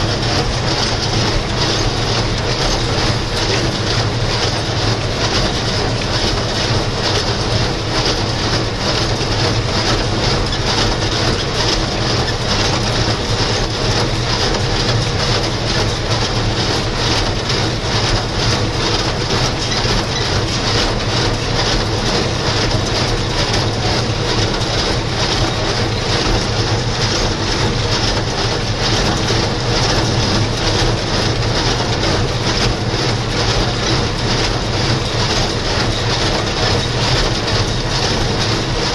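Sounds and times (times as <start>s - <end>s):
square baler packing hay: 0.0s - 38.9s
tractor diesel engine under load: 0.0s - 38.9s.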